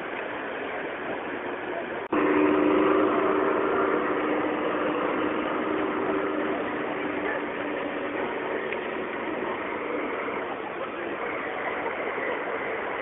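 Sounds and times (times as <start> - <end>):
busy hall noise: 0.0 - 13.0
model train engine hum: 0.0 - 13.0.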